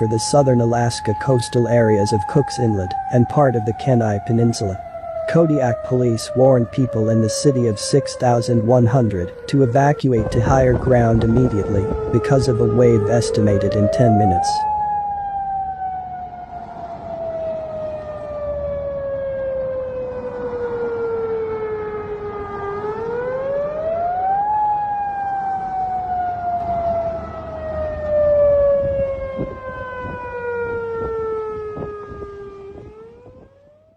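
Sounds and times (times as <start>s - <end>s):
warning siren wailing: 0.0s - 33.9s.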